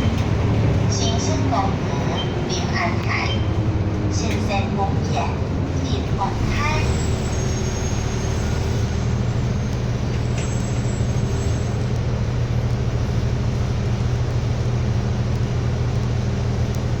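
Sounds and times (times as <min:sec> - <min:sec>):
bus engine hum: 0:00.0 - 0:17.0
road rumble: 0:00.0 - 0:17.0.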